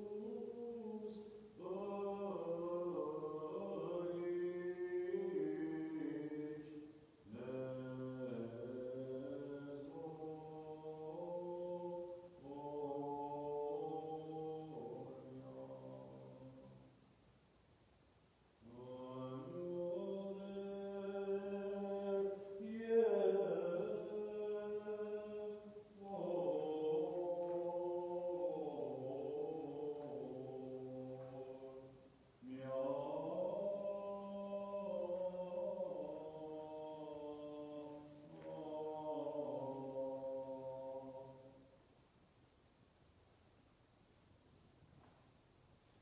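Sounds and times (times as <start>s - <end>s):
man singing liturgical chant: 0.0s - 16.9s, 18.6s - 41.7s.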